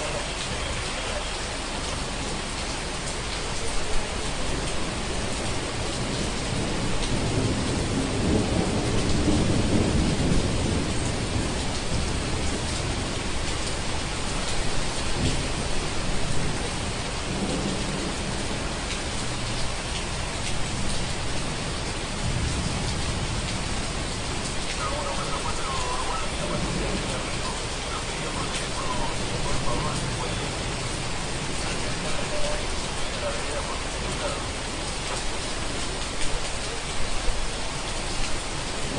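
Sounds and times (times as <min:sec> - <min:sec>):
steady rain: 0:00.0 - 0:38.9
thunder rumbling: 0:00.0 - 0:38.9.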